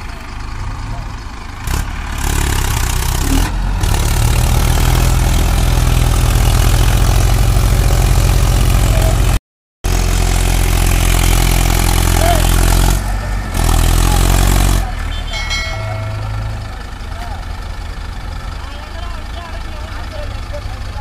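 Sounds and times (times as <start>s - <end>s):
diesel engines under heavy load: 0.0s - 21.0s.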